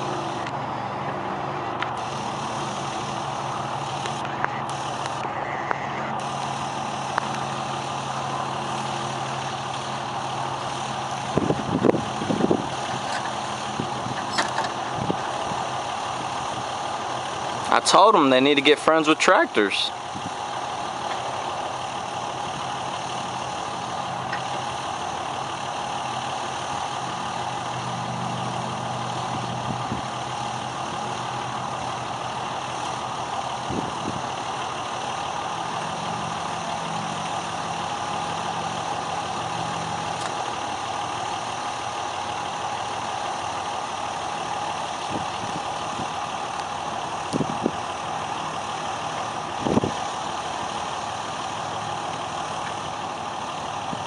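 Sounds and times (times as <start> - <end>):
pickup truck engine idling: 0.0 - 54.0.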